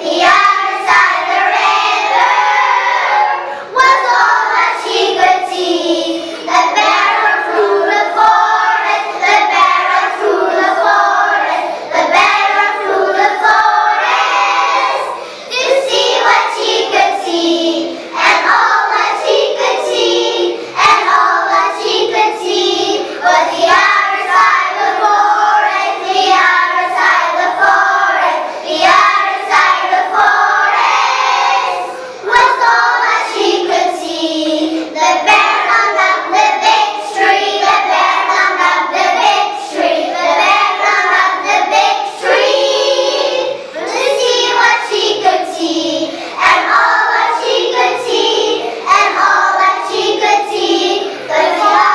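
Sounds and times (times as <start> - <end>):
children's choir singing: 0.0 - 51.9.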